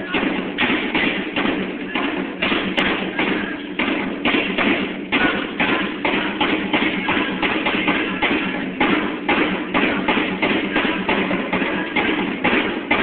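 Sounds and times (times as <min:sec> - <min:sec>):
drums playing a driving rhythm: 0:00.0 - 0:13.0.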